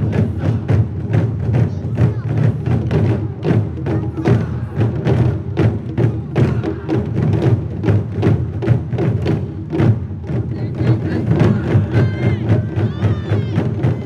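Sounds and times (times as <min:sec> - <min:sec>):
taiko drums ensemble: 0:00.0 - 0:14.0.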